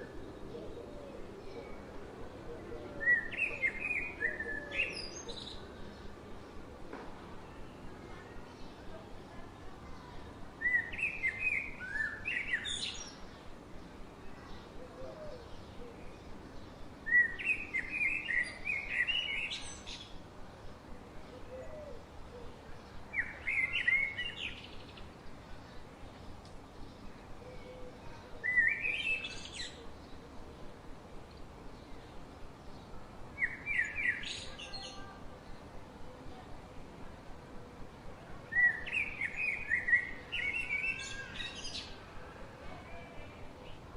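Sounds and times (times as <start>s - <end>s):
faint background hiss: 0.0s - 43.9s
songbird chirping: 0.0s - 43.9s.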